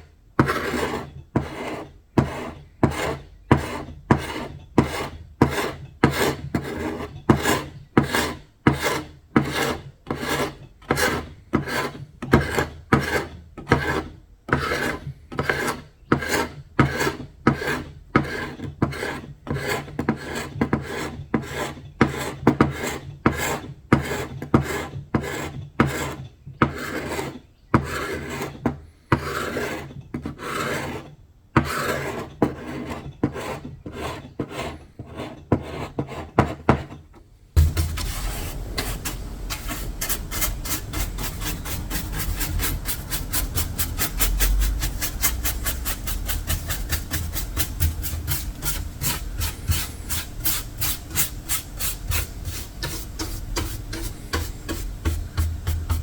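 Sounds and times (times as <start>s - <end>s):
abrasive tool rasping on surface: 0.4s - 36.6s, 37.6s - 56.0s.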